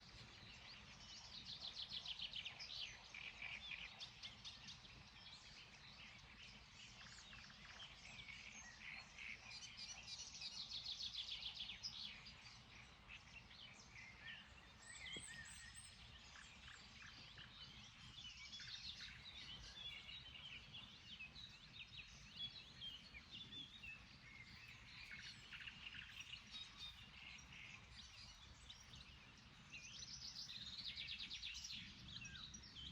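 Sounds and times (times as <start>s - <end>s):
songbirds trilling and chirping: 0.0s - 32.9s.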